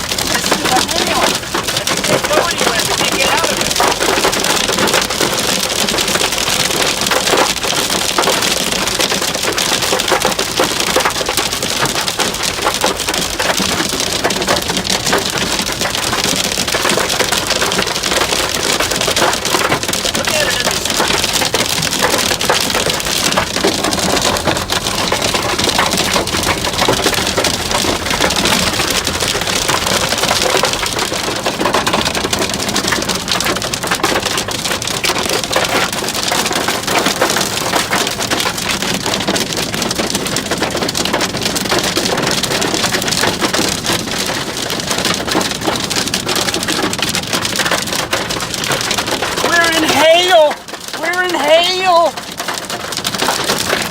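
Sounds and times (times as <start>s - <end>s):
hail hammering on a car: 0.0s - 53.9s.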